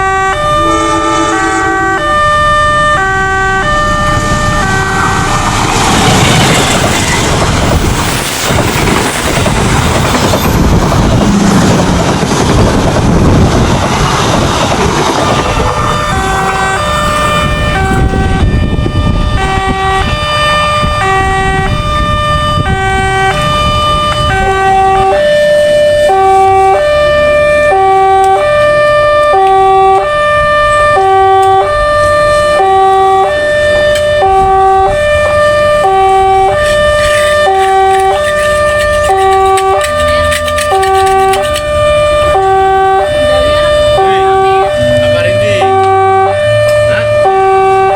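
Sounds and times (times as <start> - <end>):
level-crossing warning siren: 0.0 - 47.9
passing train rumble: 0.0 - 47.9.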